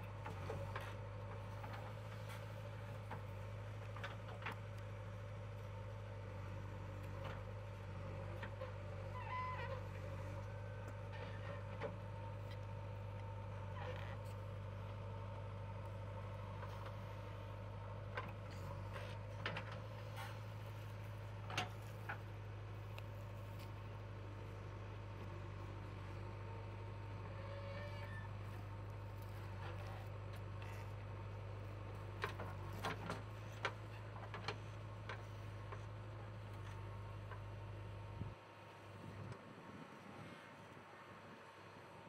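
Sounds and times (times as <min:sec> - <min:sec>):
diesel engine running: 0:00.0 - 0:39.4.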